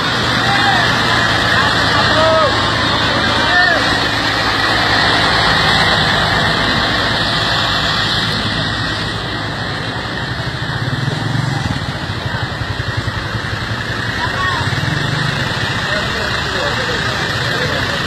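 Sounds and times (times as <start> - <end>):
engine pulsing low: 0.0 - 18.0
traffic engine and tyre noise: 0.0 - 18.0.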